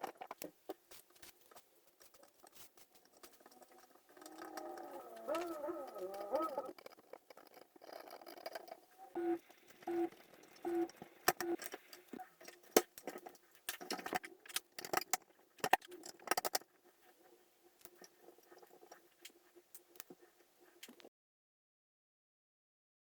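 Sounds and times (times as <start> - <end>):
faint steady hum: 0.0 - 21.1.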